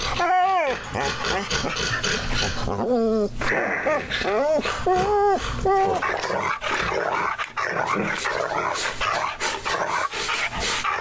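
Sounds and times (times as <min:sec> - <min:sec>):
dogs whining: 0:00.0 - 0:10.0
dogs yipping and growling: 0:00.0 - 0:11.0.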